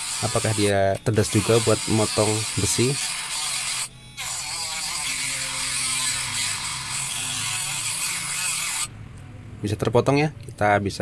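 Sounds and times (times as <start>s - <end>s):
grinder disc cutting steel: 0.0s - 8.9s
grinder motor whine: 0.0s - 8.9s.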